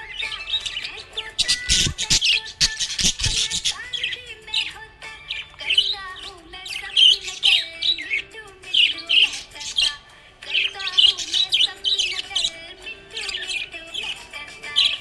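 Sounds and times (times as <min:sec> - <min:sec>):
budgerigar chirping and warbling: 0:00.0 - 0:15.0.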